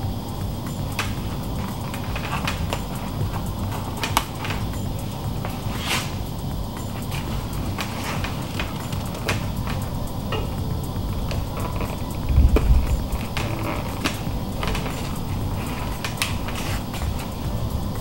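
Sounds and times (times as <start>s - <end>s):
fabric handling noise: 0.0s - 18.0s.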